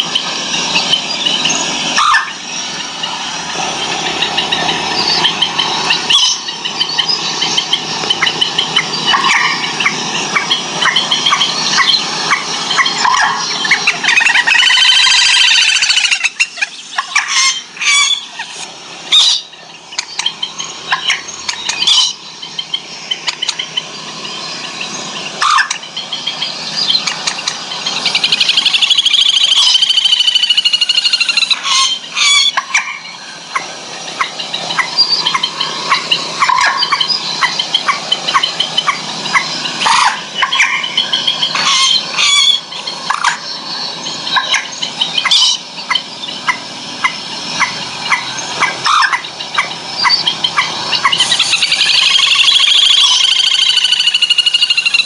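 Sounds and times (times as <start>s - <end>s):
recorded bird calls through speakers: 0.0s - 55.0s.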